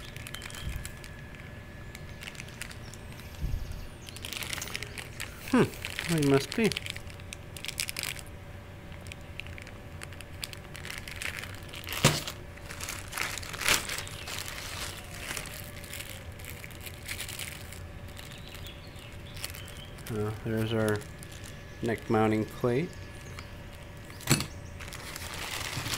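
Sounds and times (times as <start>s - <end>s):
plastic bags crinkling: 0.0s - 25.9s.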